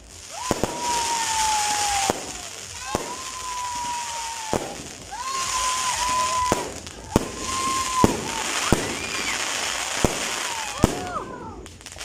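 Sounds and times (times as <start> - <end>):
firework bangs: 0.0 - 12.0
firework whistles: 0.0 - 12.0.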